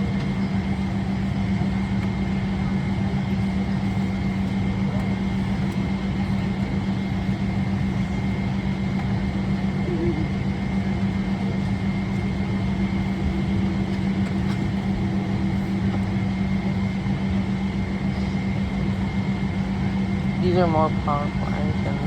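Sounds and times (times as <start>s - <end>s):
aircraft cabin hum: 0.0s - 22.0s.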